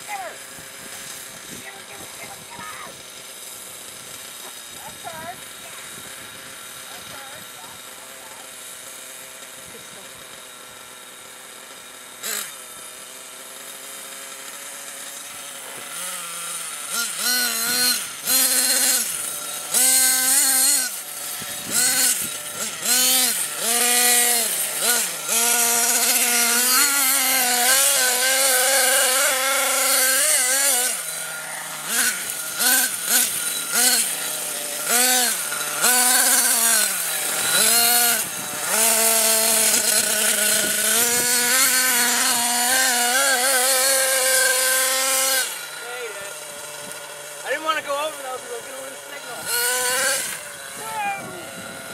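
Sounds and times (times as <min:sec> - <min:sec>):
small nitro engine revving: 0:00.0 - 0:51.9.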